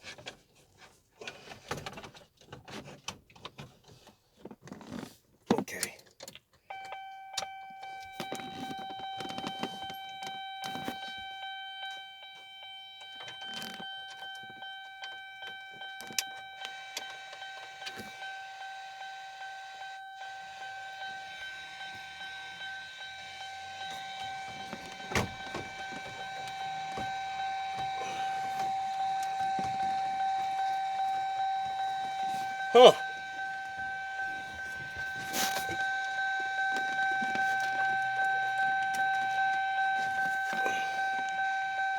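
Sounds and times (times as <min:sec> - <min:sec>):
car warning chime dinging: 0:06.6 - 0:41.9.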